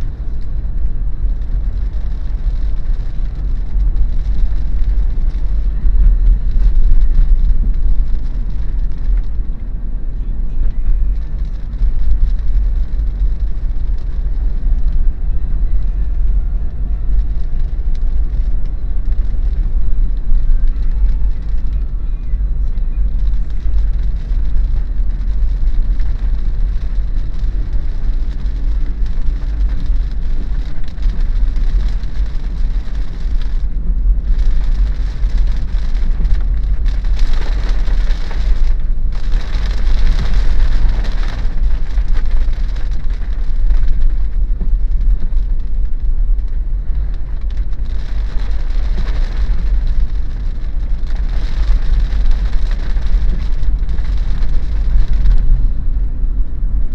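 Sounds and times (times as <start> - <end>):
car driving rumble: 0.0 - 56.9
rain falling on a car: 0.0 - 56.9.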